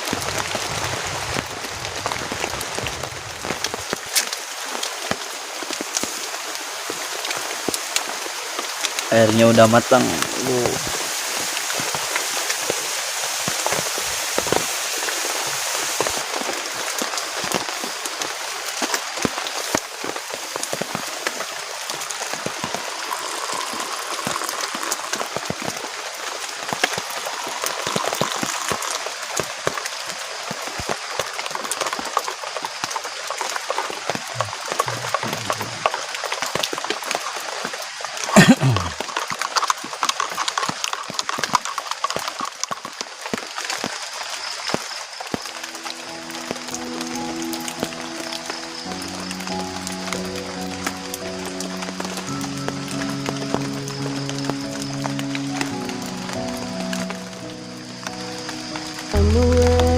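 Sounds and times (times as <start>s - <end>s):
heavy rain patter: 0.0s - 59.9s.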